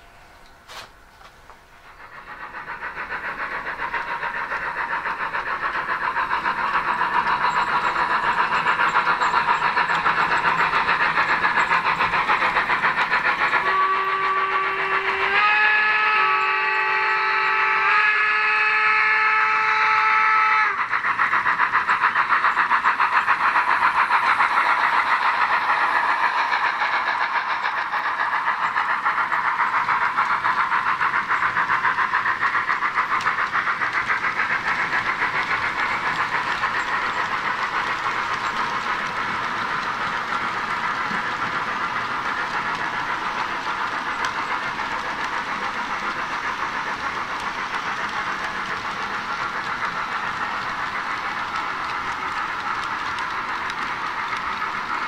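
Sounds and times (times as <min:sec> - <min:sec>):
rail running noise: 0:00.0 - 0:55.0
rhythmic steam chuffing: 0:00.0 - 0:55.0.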